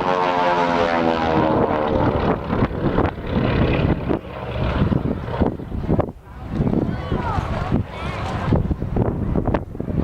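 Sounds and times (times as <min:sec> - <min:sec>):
aircraft engine droning past: 0:00.0 - 0:10.0
wind buffeting microphone: 0:01.0 - 0:10.0.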